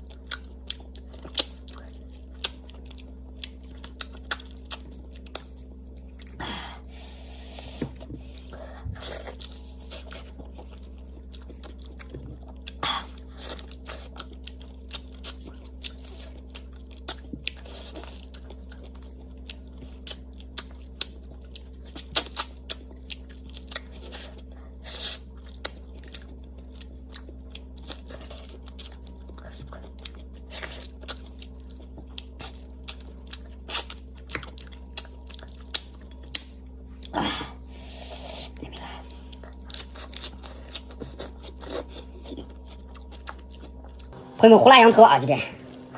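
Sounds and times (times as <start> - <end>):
chewing and crunching: 0.0 - 44.2
low electrical hum: 0.0 - 45.9.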